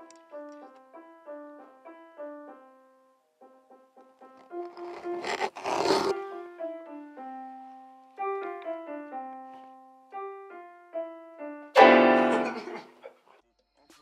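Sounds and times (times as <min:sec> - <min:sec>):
piano notes: 0:00.0 - 0:13.0.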